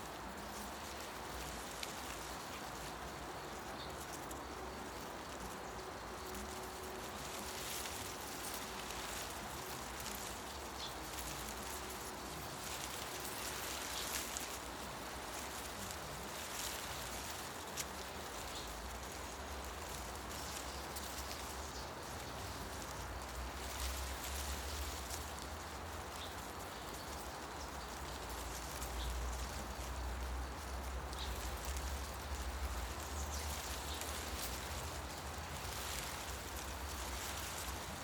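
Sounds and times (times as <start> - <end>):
wind rustling tree leaves: 0.0 - 38.0.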